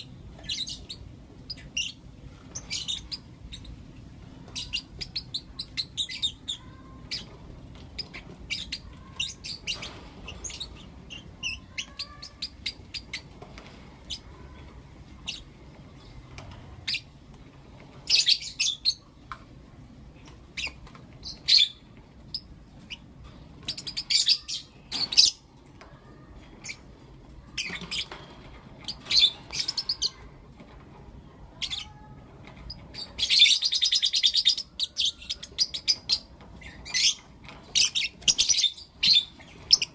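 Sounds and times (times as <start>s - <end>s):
birds chattering calls: 0.0s - 30.8s, 31.4s - 39.9s
birds chirping: 0.0s - 39.9s.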